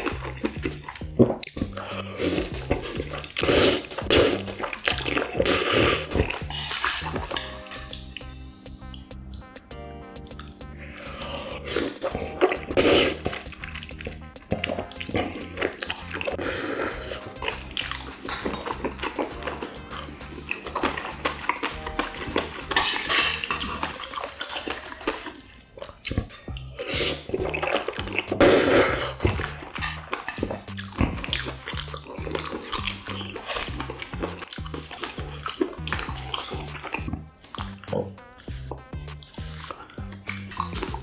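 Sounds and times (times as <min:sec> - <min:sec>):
background music with bass beat: 0:00.0 - 0:24.0, 0:26.5 - 0:41.0
wet chewing: 0:00.0 - 0:41.0.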